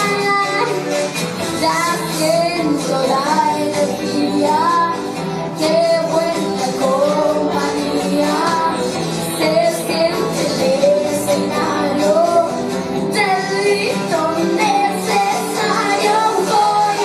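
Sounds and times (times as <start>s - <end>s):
girl singing into a microphone: 0.0s - 0.9s, 1.5s - 17.0s
backing track music: 0.0s - 17.0s.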